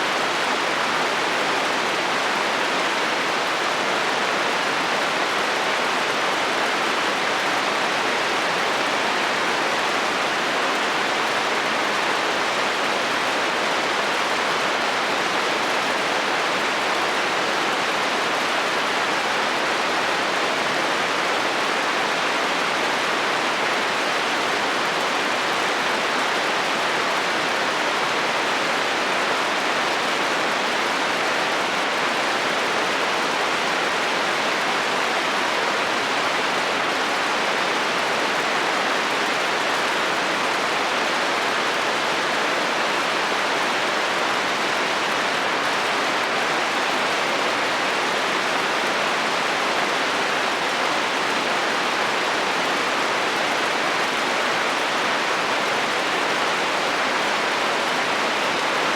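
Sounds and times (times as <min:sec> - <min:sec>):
heavy rain on a metal roof: 0:00.0 - 0:58.9.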